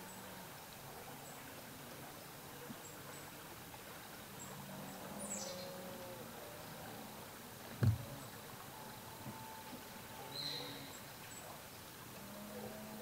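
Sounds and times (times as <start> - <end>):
faint steady tone: 0.0 - 13.0
woodland ambience: 0.0 - 13.0.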